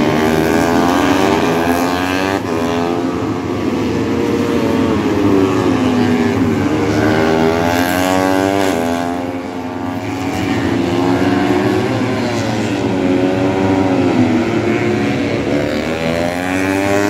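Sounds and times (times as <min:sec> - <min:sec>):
race motorcycle engine revving: 0:00.0 - 0:17.0.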